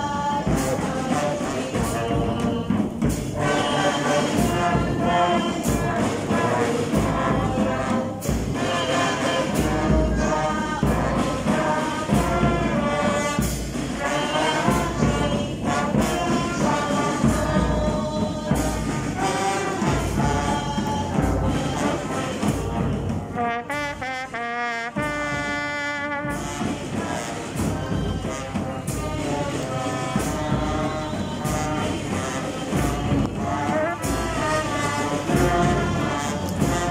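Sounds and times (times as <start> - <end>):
bass drum and snare drums: 0.0 - 36.9
trumpets and trombones melody: 0.0 - 36.9.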